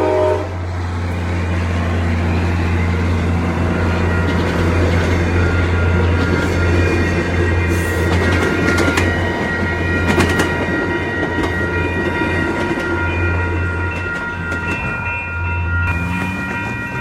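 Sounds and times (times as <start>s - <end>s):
train rumbling past: 0.0s - 17.0s
wheels clicking over rail joints: 3.2s - 17.0s.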